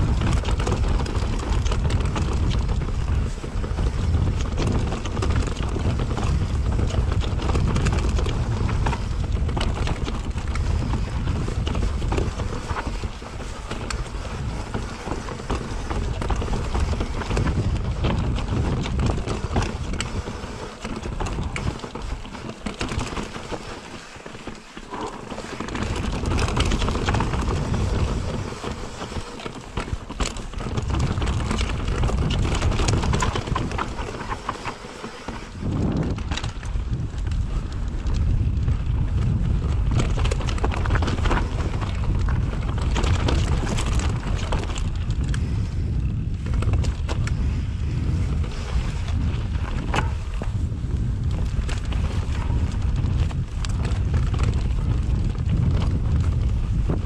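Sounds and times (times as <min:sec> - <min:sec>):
bike rattling over stones: 0:00.0 - 0:57.0
wind buffeting microphone: 0:00.0 - 0:57.0.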